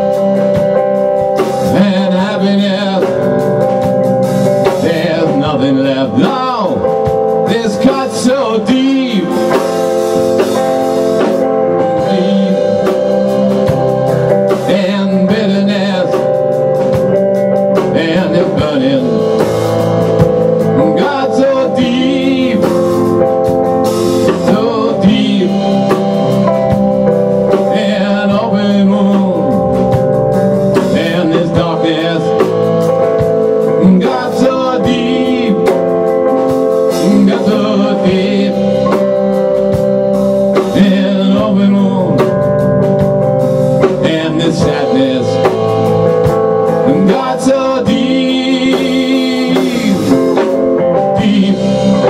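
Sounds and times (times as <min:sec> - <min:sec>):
drum kit: 0:00.0 - 0:52.0
electric guitars: 0:00.0 - 0:52.0
man singing: 0:00.0 - 0:52.0.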